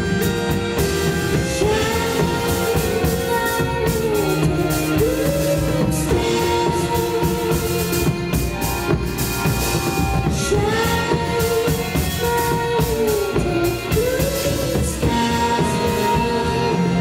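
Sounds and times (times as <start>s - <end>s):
rock band playing: 0.0s - 17.0s
woman singing long notes: 1.2s - 8.4s, 10.4s - 17.0s.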